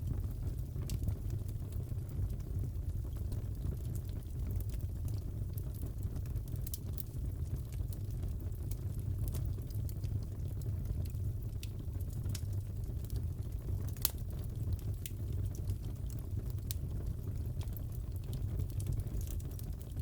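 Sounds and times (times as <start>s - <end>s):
fire burning rumble: 0.0s - 20.0s
fire crackling pops and snaps: 0.0s - 20.0s.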